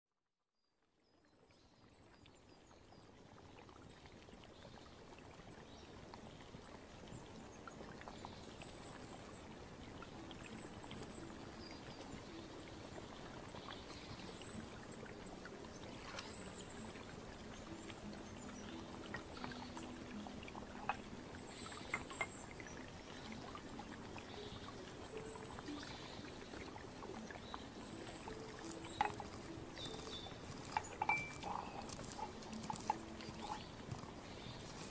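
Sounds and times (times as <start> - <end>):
flowing water: 0.9 - 34.9.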